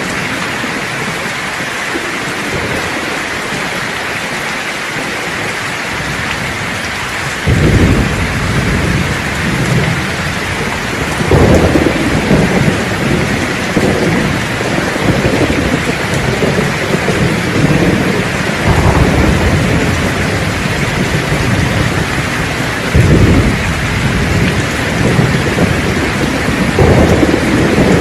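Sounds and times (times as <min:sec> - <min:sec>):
heavy rain hissing: 0:00.0 - 0:28.0
thunder rumbling: 0:00.0 - 0:28.0.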